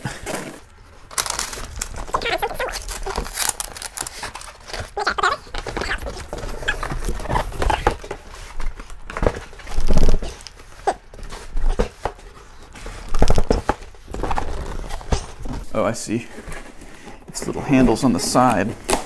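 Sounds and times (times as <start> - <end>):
cardboard scraping and rustling: 0.0 - 19.0.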